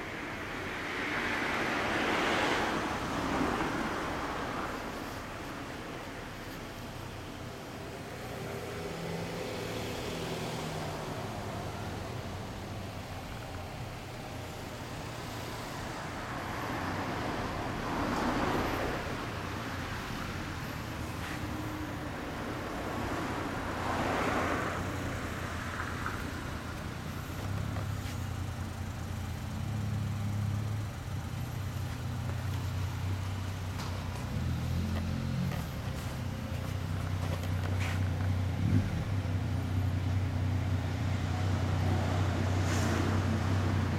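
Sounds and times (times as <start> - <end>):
passing traffic: 0.0 - 43.9.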